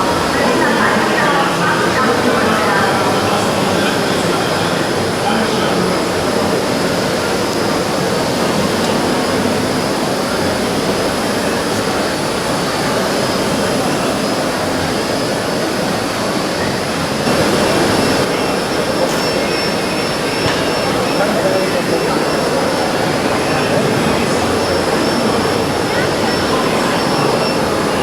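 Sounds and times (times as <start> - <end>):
model machines whirring: 0.0 - 28.0.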